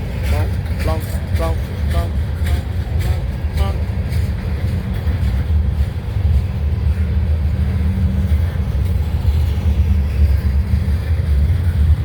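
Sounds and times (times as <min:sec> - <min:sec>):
train wheels rumbling on rail: 0:00.0 - 0:12.0
wheels clacking over rail joints: 0:00.0 - 0:12.0.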